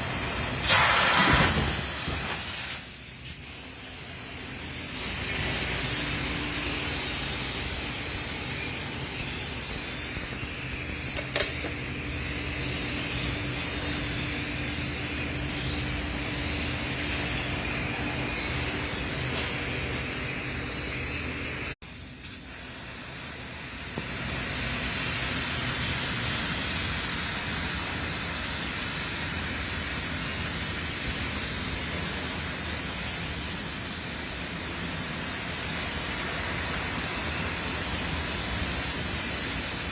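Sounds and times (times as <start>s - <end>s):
factory machinery hissing: 0.0s - 39.9s.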